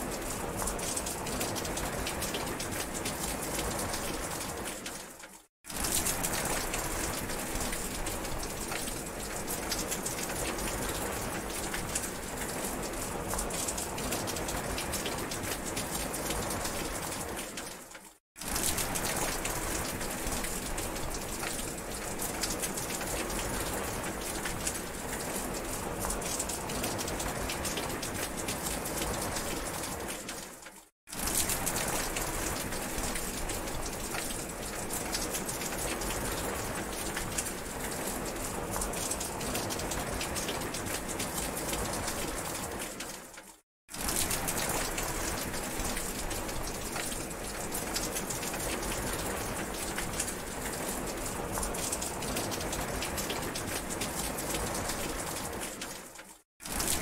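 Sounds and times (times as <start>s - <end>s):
heavy rain falling: 0.0s - 17.8s, 18.4s - 57.0s.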